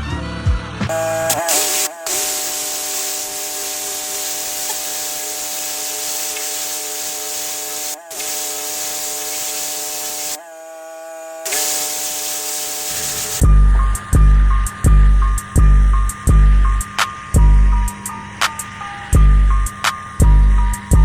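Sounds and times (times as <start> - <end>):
pressure washer spray hissing: 0.9 - 10.4, 11.0 - 21.0
machine humming: 0.9 - 21.0.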